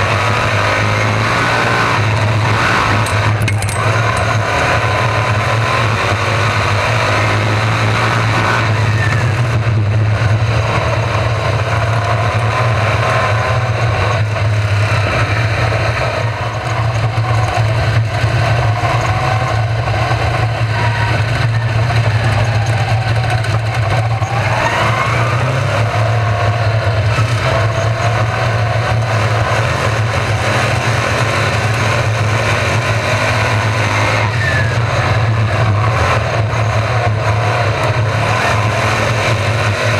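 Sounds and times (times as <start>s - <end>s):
race car engines roaring past: 0.0s - 39.9s.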